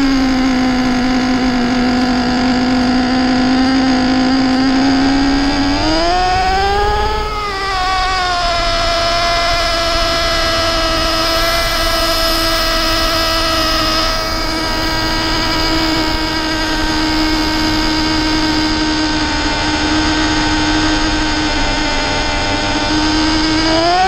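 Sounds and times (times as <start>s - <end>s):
small engine high-pitched whine: 0.0s - 24.0s.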